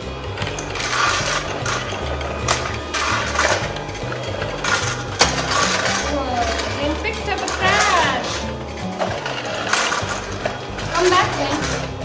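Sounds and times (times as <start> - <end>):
plastic balls rattling: 0.0 - 12.0
toy vacuum motor whirring: 0.0 - 12.0.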